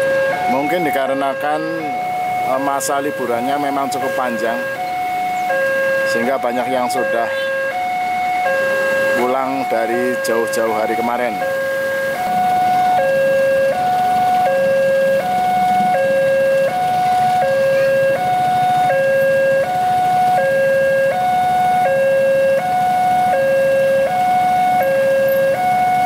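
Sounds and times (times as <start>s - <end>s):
level crossing two-tone alarm: 0.0s - 26.0s.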